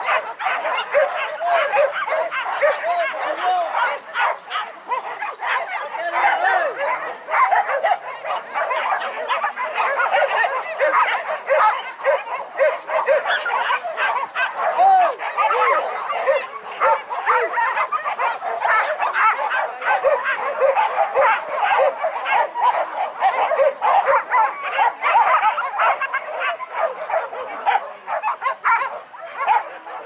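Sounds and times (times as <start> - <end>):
dogs yelping and baying: 0.0 - 30.0.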